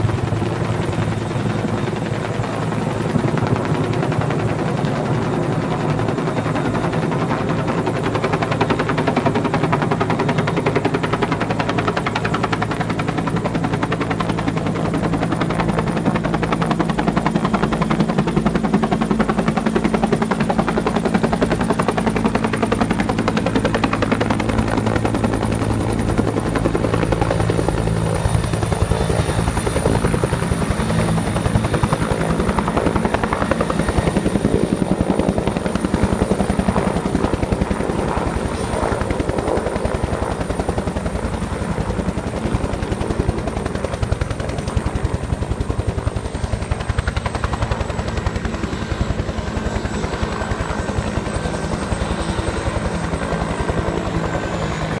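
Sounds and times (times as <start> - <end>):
helicopter rotor beating: 0.0 - 55.0.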